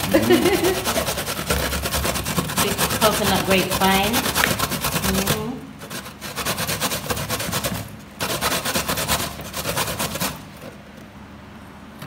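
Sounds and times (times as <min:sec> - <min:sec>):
coconut grated on metal grater: 0:00.0 - 0:10.8.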